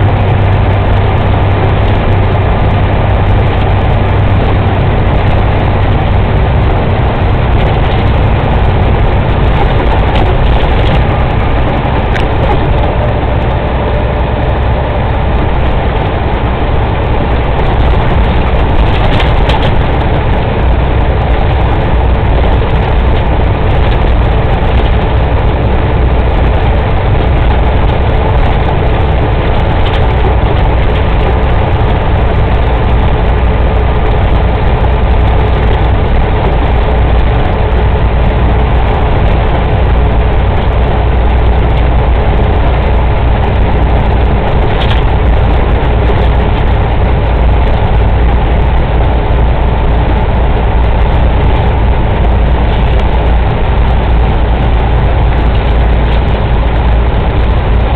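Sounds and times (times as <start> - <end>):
truck engine and tyre drone: 0.0 - 57.9.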